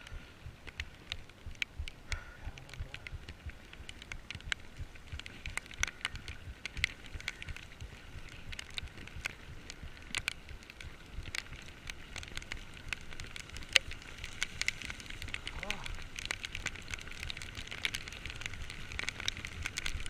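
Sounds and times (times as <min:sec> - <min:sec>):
heavy rain crackling: 0:00.0 - 0:20.0.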